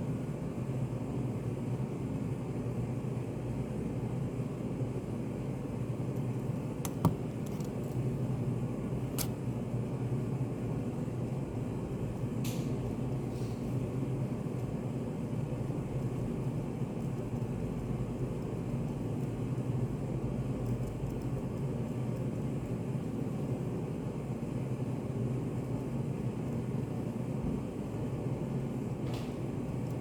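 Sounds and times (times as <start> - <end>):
constant low hum: 0.0 - 30.0.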